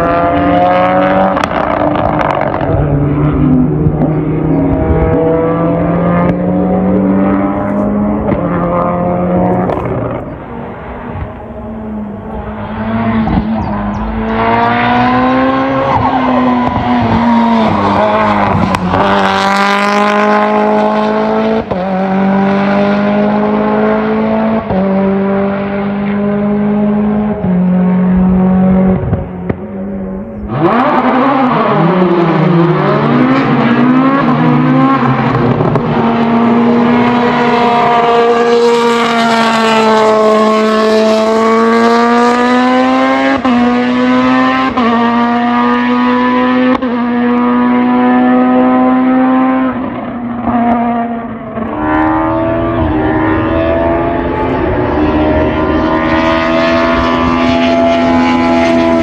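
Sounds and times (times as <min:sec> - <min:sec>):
racing car engine at full throttle: 0:00.0 - 0:59.0
second car engine: 0:00.0 - 0:59.0.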